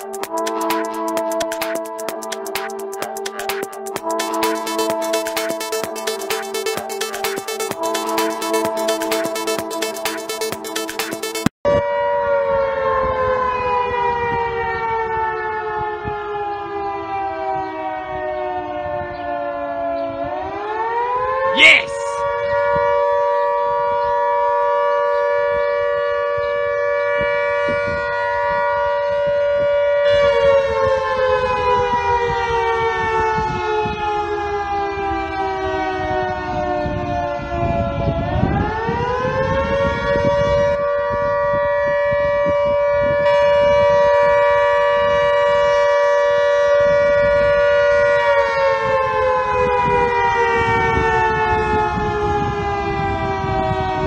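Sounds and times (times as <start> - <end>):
siren wailing: 0.0 - 54.0.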